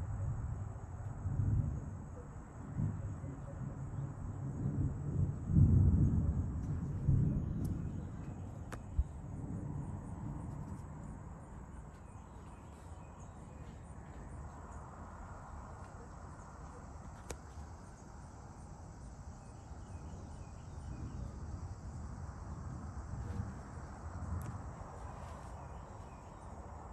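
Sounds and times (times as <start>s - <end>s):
insects chirping: 0.0s - 26.9s
distant thunder rumbling: 0.1s - 26.9s.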